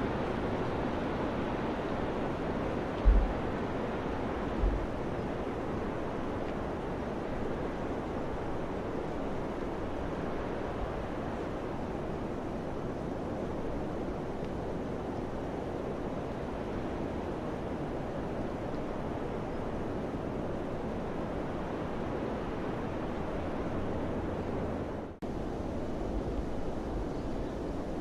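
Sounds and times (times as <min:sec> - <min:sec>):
wind blowing with low rumble: 0:00.0 - 0:28.0.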